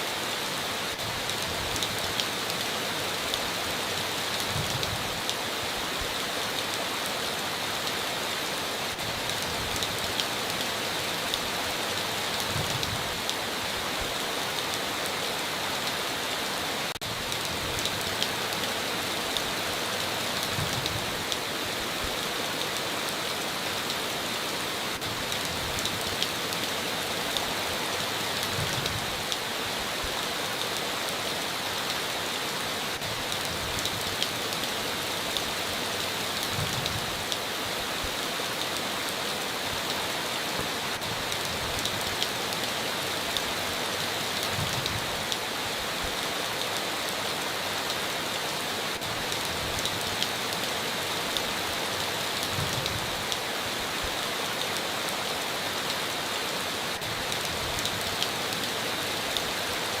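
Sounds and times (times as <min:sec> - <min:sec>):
heavy rain on a tin roof: 0:00.0 - 1:00.0.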